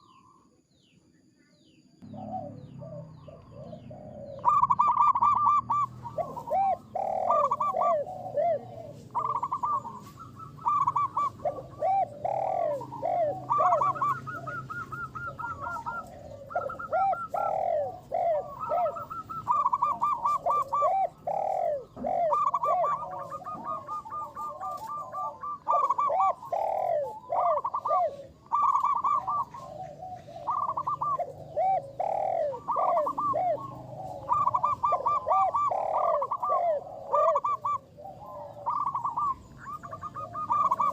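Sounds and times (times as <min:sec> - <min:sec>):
doves cooing: 0:02.0 - 0:40.9.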